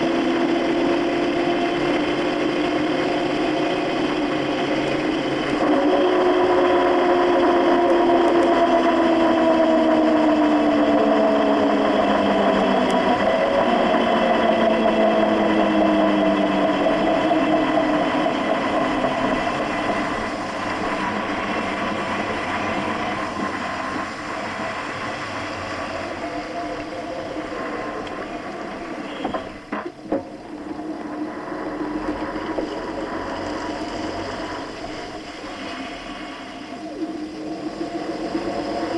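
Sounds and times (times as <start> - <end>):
truck differential whining: 0.0 - 38.9
tyre and road noise: 0.0 - 38.9.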